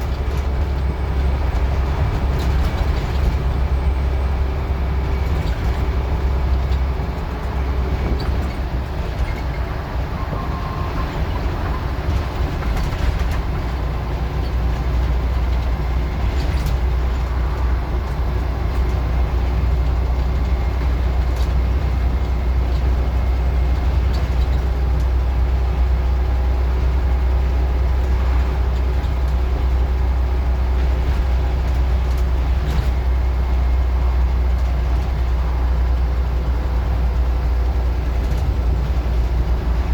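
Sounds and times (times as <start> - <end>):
diesel bus engine droning: 0.0 - 39.9
road noise: 0.0 - 39.9.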